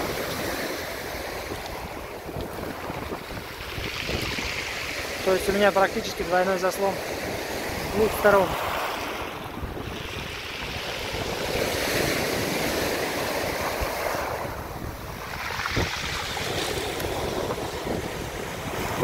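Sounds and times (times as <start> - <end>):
sea surf washing ashore: 0.0 - 19.0
wind buffeting microphone: 0.0 - 19.0.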